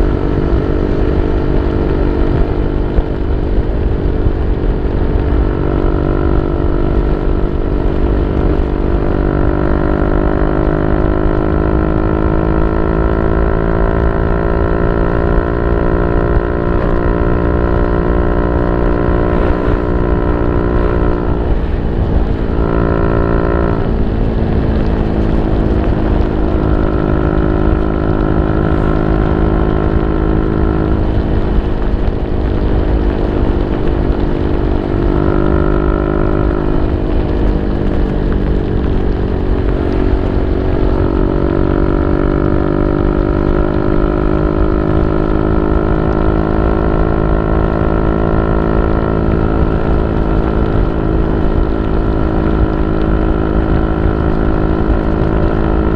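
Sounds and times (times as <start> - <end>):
motorcycle engine droning: 0.0 - 55.9.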